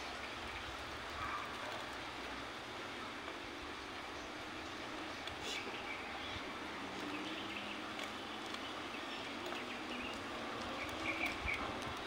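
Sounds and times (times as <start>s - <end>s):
distant traffic hum: 0.0s - 12.0s.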